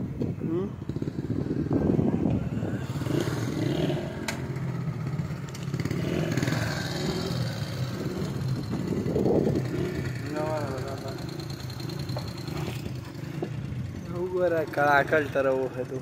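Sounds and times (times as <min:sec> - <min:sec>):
small motorcycle engine running: 0:00.5 - 0:16.0.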